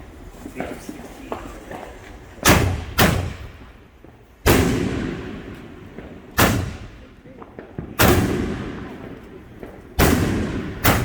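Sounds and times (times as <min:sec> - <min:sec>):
fireworks bangs with echo: 0:00.4 - 0:11.0.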